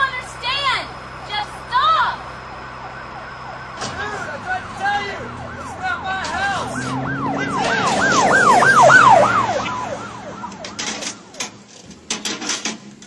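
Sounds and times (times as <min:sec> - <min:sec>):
emergency siren yelping: 0:00.0 - 0:11.6.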